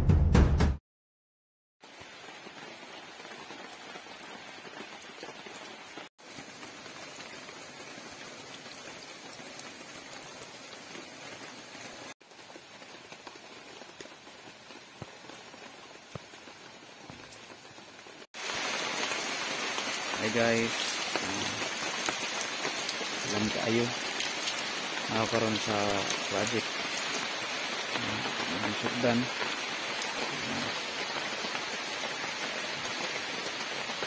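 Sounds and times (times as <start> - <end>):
heavy rain on puddles: 1.8 - 34.0.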